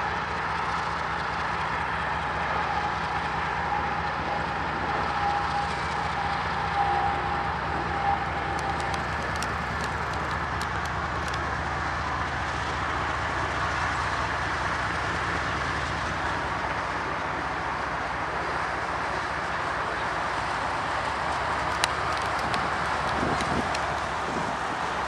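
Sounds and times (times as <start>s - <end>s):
freight cars rolling past: 0.0s - 25.0s.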